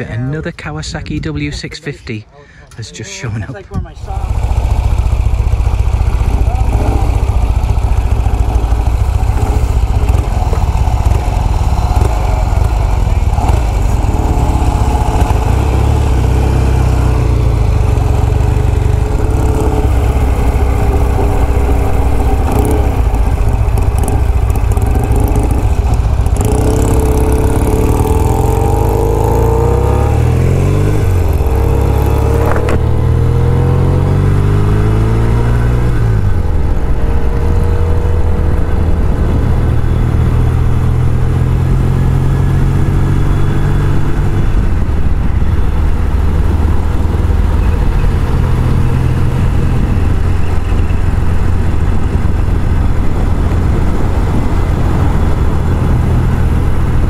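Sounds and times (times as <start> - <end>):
motorcycle accelerating: 3.9 - 57.0
motorcycle engines pulling away: 4.0 - 57.0.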